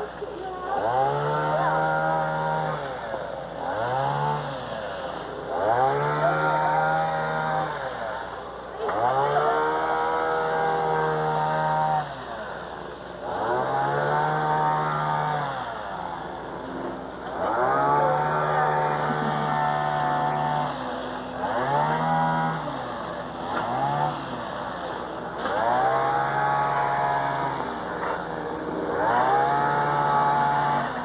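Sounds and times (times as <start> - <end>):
small engine revving: 0.0 - 31.0.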